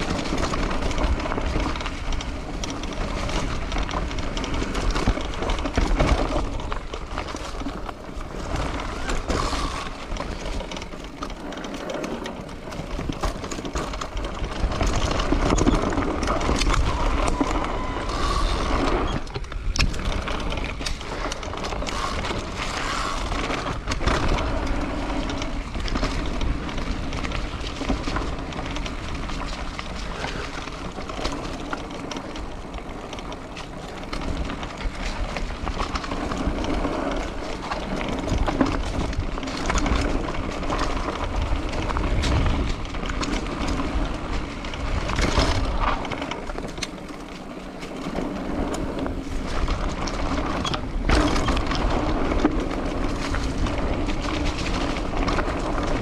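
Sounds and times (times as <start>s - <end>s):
bicycle tyre road noise: 0.0s - 56.0s
wind rushing over microphone: 0.0s - 56.0s.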